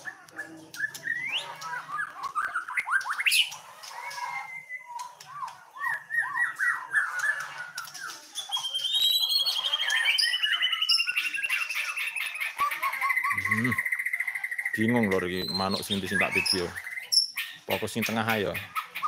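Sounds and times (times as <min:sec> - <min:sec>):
bird singing whistled song: 0:00.0 - 0:03.6, 0:04.2 - 0:17.8.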